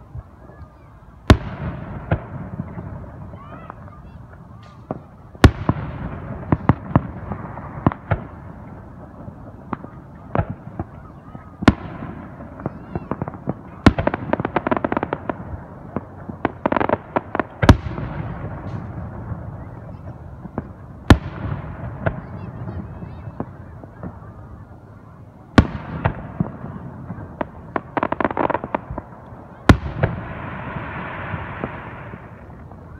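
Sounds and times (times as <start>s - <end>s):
fireworks bangs: 0.0s - 32.9s.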